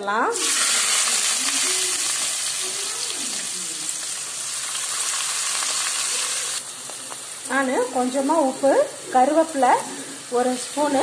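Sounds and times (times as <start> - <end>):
hot oil sizzling: 0.2 - 11.0.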